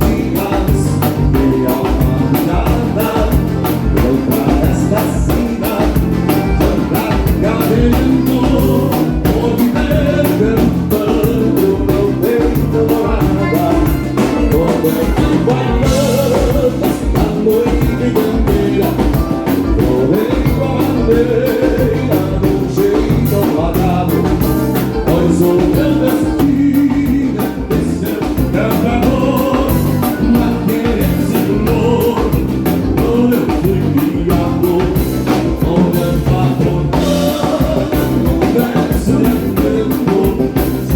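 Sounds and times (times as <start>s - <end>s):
drum kit beat: 0.0s - 40.9s
live dance band playing: 0.0s - 40.9s
person singing: 0.0s - 40.9s.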